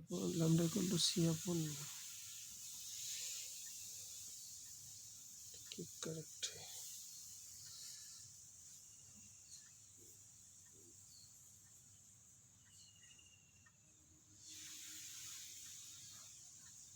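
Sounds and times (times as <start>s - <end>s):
high-pitched background hiss: 0.0s - 16.9s.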